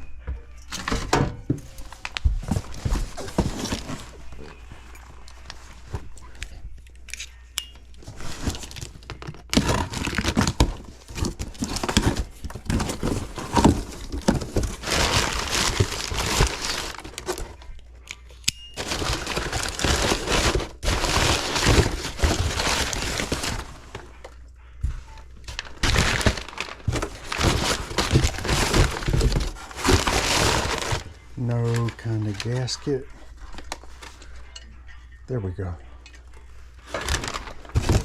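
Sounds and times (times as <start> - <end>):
rough scraping and crinkling: 0.7 - 6.6, 8.0 - 17.7, 18.8 - 24.3, 24.9 - 34.4, 36.7 - 38.0.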